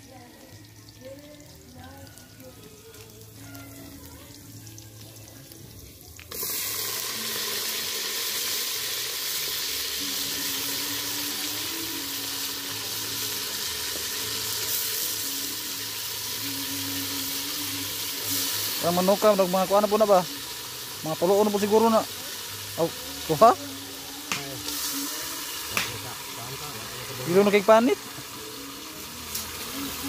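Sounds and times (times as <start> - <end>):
meat sizzling in a hot pot: 0.0 - 30.0.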